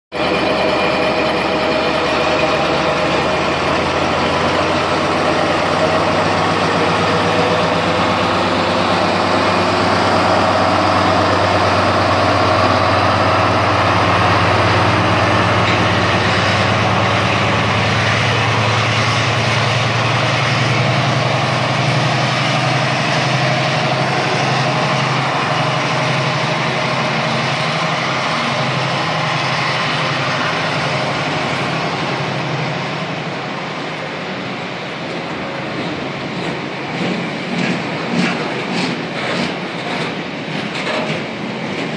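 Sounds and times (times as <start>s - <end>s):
diesel locomotive engine drone: 0.1s - 41.9s
freight train running past: 0.1s - 41.9s.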